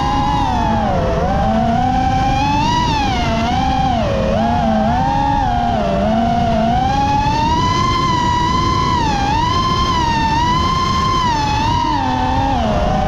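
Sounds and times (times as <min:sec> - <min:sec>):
drone propellers whining: 0:00.0 - 0:13.0
steady low rush: 0:00.0 - 0:13.0.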